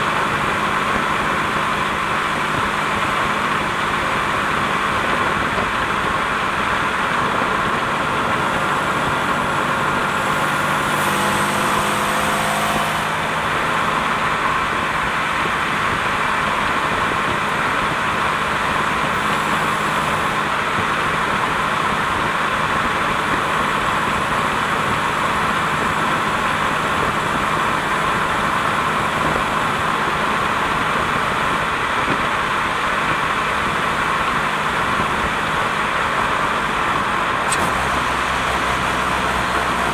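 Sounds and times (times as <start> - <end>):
car engine and drivetrain noise: 0.0 - 39.9.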